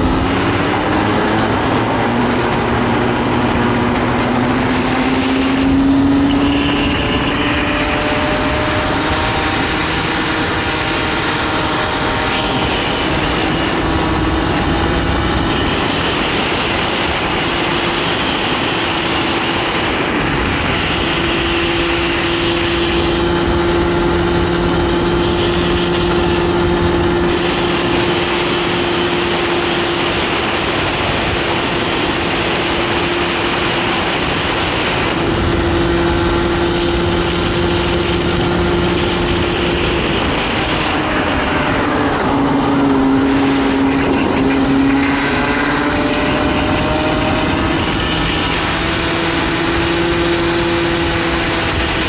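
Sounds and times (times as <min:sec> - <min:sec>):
kart engine at racing revs: 0:00.0 - 0:52.0
wind and road noise: 0:00.0 - 0:52.0.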